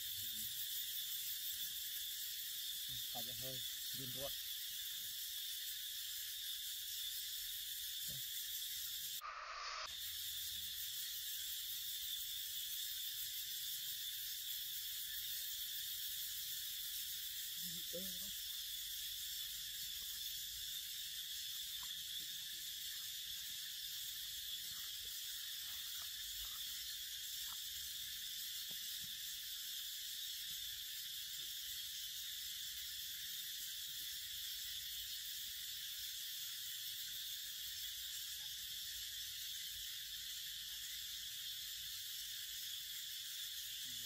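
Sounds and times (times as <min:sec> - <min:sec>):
insect chorus hissing: 0:00.0 - 0:44.0.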